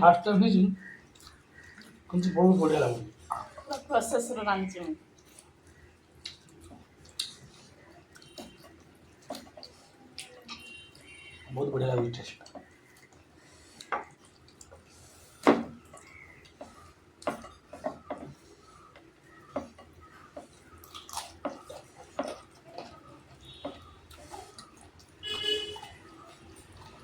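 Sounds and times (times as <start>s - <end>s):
chewing: 0.8s - 27.0s.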